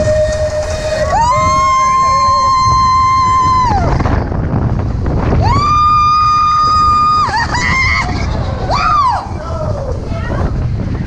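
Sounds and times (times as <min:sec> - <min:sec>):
roller coaster rumble and wind: 0:00.0 - 0:11.0.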